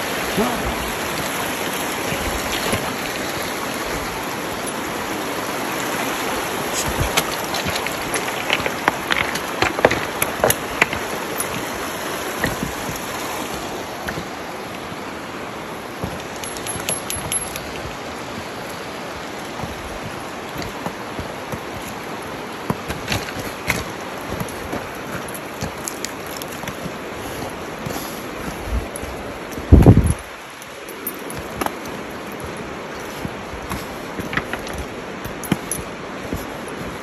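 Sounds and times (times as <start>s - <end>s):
creek flowing over rocks: 0.0s - 37.0s
footsteps on loose stones: 0.4s - 37.0s.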